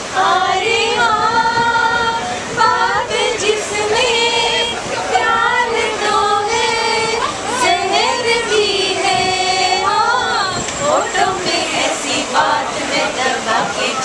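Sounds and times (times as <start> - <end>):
train coach running noise: 0.0 - 14.0
woman singing unaccompanied: 0.0 - 14.0.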